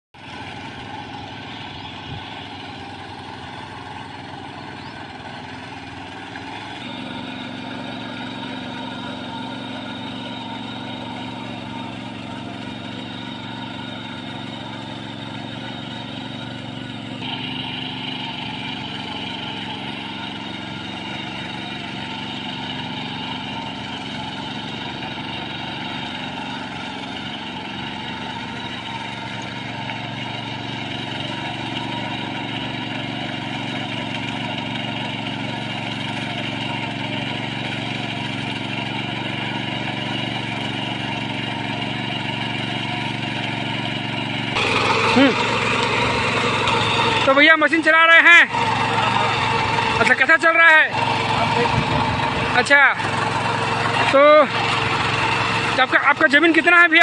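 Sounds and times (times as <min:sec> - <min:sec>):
power tiller engine running: 0:00.2 - 0:57.0.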